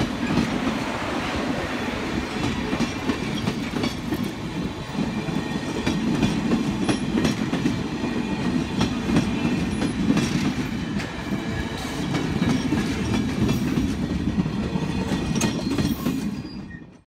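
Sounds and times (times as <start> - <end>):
train wheels rumbling on rails: 0.0 - 17.0
wheels clicking over rail joints: 2.2 - 16.9.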